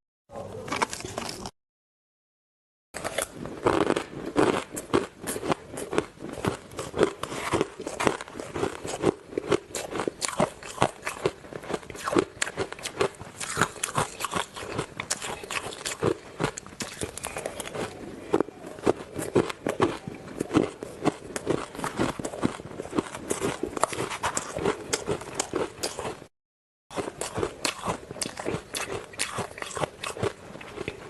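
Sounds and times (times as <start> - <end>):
ice being chewed: 0.5 - 1.5, 3.0 - 26.2, 26.9 - 31.0.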